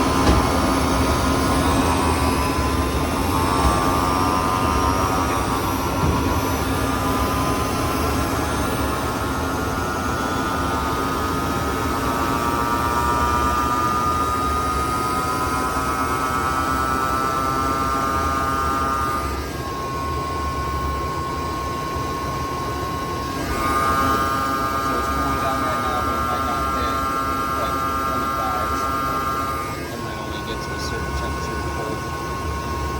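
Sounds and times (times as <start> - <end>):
compressor whine: 0.0 - 32.9.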